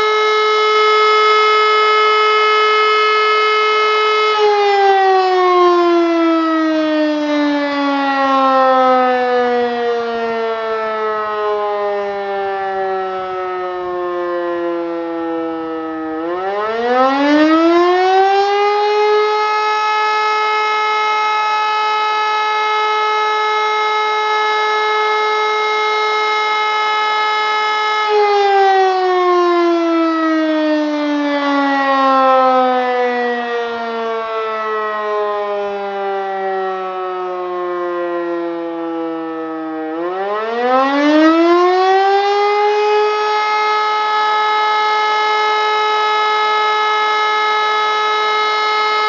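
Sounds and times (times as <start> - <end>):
electromechanical siren: 0.0 - 49.0.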